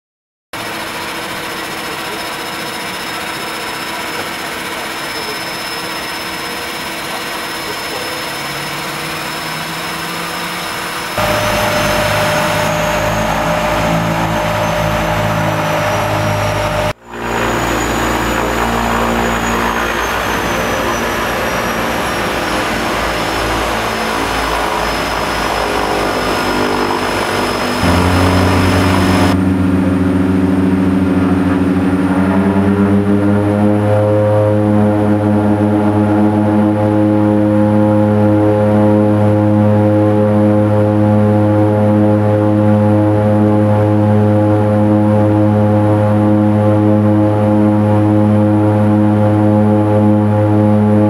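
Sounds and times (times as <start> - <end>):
high turbine whine: 0.6 - 50.8
propeller engines droning: 0.6 - 51.0.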